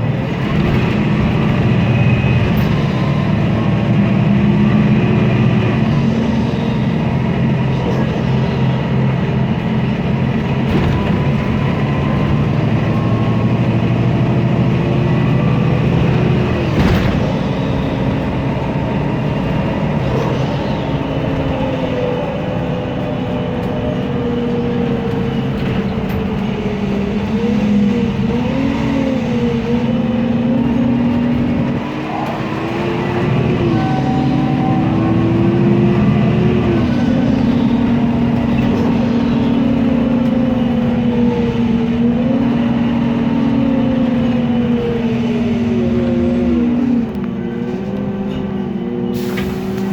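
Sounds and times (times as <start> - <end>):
bus engine drone: 0.0 - 49.9
whining tones: 0.0 - 49.9.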